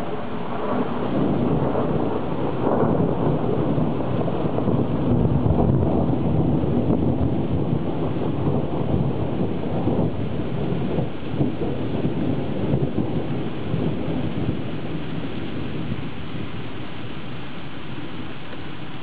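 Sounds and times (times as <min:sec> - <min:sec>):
rain: 0:00.0 - 0:19.0
thunder rumbling: 0:00.0 - 0:19.0.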